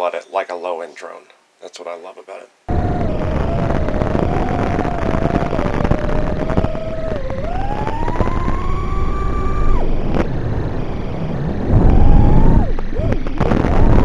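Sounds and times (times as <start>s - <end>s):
drone motors whining: 2.7s - 14.0s
heavy wind rush: 2.7s - 14.0s.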